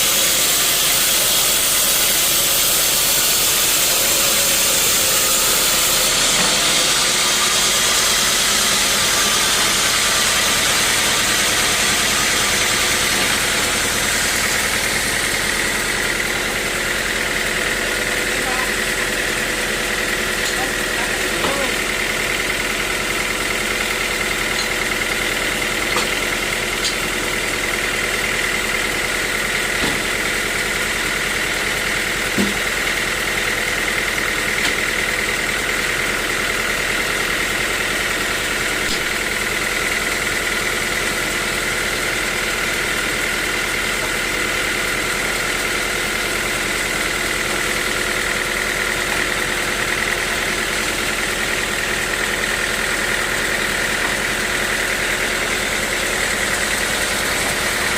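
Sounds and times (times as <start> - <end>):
continuous machine whine: 0.0 - 57.9
sawmill machinery drone: 0.0 - 57.9.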